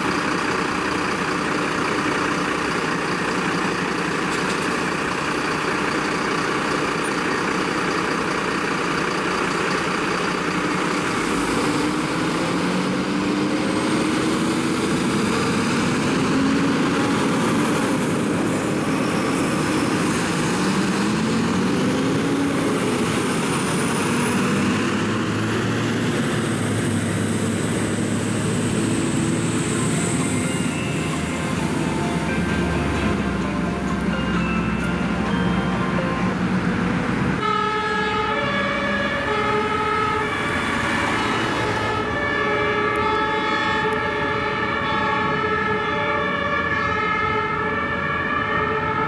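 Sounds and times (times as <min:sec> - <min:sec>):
fire engines driving off: 0:00.0 - 0:49.0
road noise: 0:00.0 - 0:49.0.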